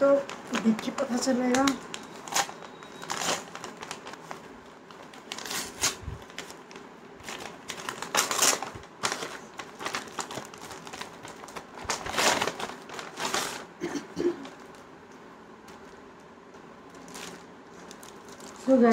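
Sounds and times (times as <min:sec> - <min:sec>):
plastic packet crinkling: 0:00.0 - 0:13.8, 0:14.4 - 0:14.9, 0:16.8 - 0:18.9.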